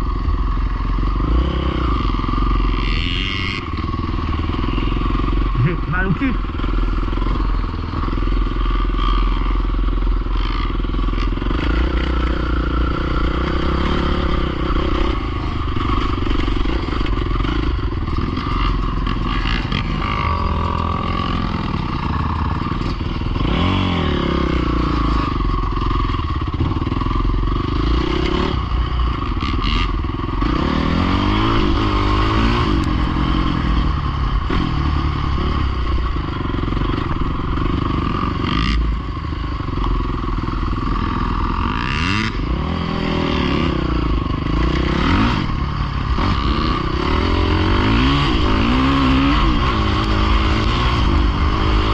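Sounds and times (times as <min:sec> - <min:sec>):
pit bike engine revving: 0:00.0 - 0:51.9.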